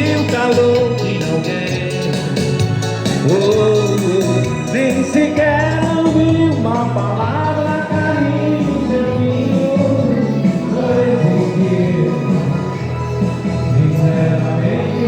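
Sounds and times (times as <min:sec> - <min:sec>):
dance band playing: 0:00.0 - 0:15.0.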